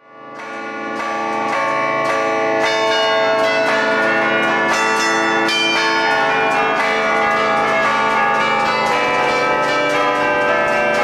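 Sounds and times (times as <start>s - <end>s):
church bells playing a melody: 0.1s - 11.0s.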